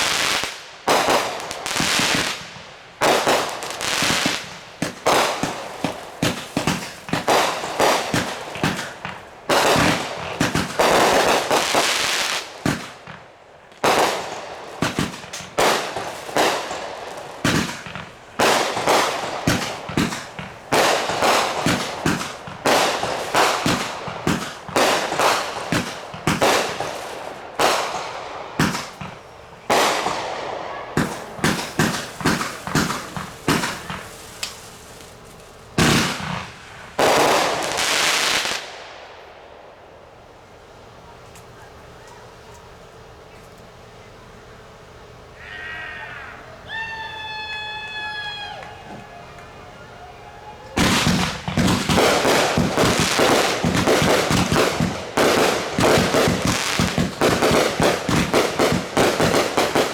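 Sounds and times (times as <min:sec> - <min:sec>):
fireworks bangs with fizzle: 0:00.0 - 0:43.4, 0:50.5 - 0:59.9.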